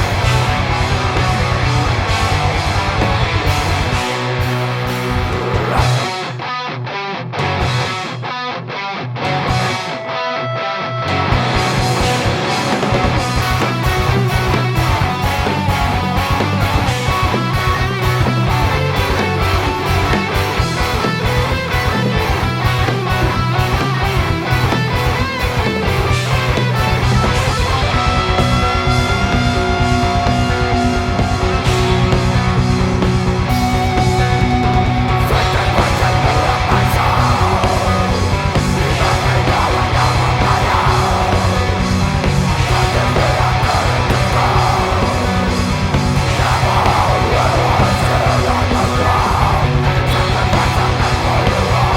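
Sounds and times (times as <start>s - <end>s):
fast drums: 0.0s - 6.4s, 11.3s - 51.9s
bass guitar: 0.0s - 51.9s
distorted electric guitars: 0.0s - 51.9s.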